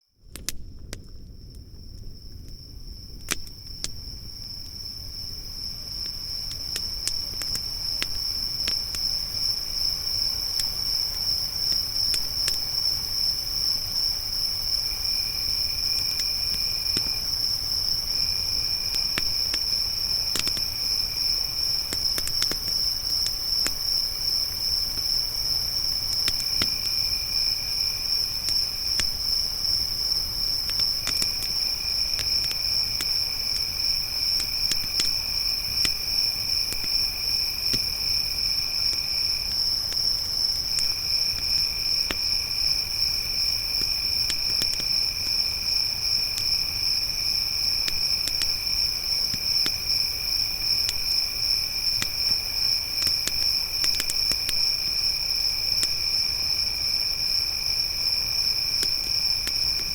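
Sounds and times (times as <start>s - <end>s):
campfire crackling: 0.2s - 59.9s
crickets trilling: 0.3s - 59.9s.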